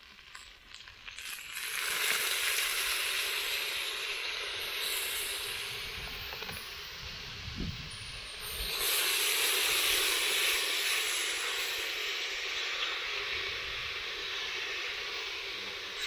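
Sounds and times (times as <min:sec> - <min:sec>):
vegetables frying: 0:00.0 - 0:16.0
water hissing on hot pan: 0:00.0 - 0:16.0.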